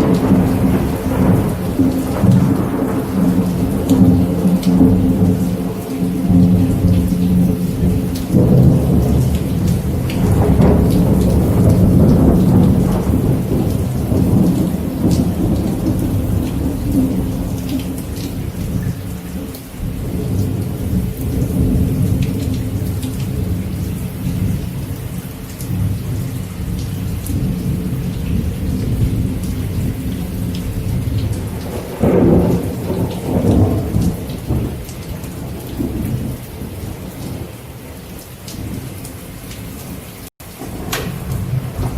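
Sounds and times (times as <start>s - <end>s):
thunder rumbling: 0.0s - 37.6s, 40.4s - 41.9s
steady rain: 0.0s - 41.9s.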